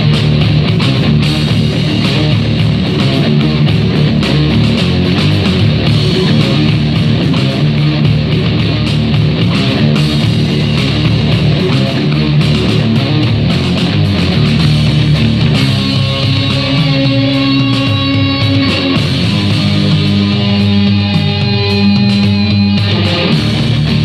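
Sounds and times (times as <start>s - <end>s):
rock music with electric guitar: 0.0s - 24.0s.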